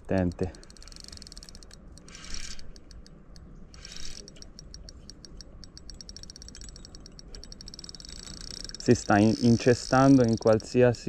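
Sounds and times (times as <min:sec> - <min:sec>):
fishing reel drag clicking: 0:00.0 - 0:11.0.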